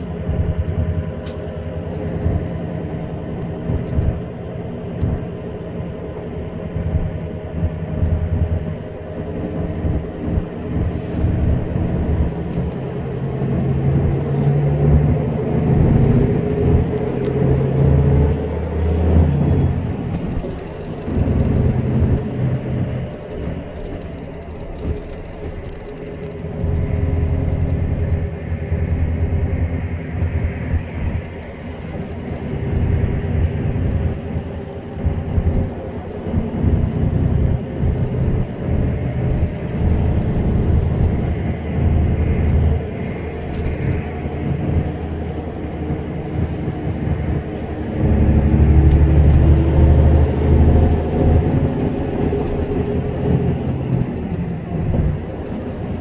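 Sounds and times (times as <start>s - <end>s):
car road noise at speed: 0.0s - 56.0s.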